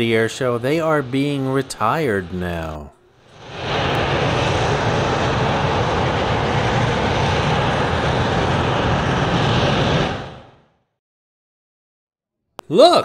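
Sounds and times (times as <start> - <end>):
loud jet engine noise: 0.0 - 10.8.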